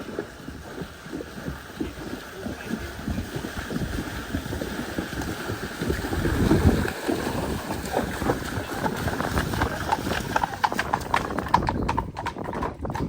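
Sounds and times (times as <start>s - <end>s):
rushing floodwater: 0.0s - 11.6s
wind buffeting microphone: 0.0s - 13.0s.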